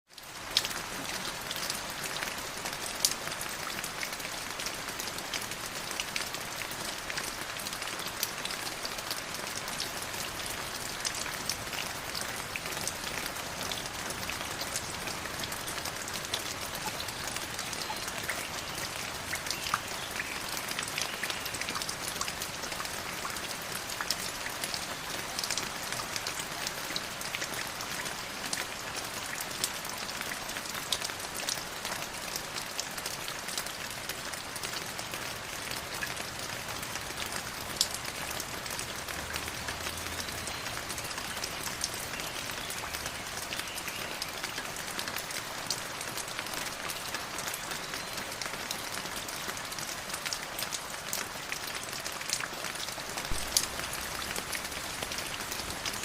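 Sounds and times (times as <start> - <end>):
water splashes and drips: 0.1 - 56.0
river water flowing: 0.3 - 31.3, 32.0 - 56.0.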